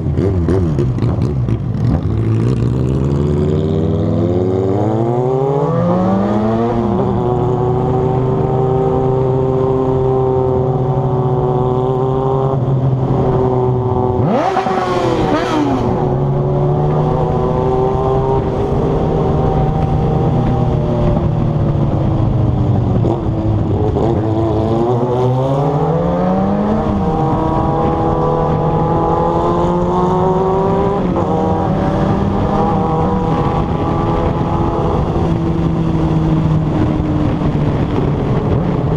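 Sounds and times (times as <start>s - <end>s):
motorcycle engine running at speed: 0.0s - 38.9s.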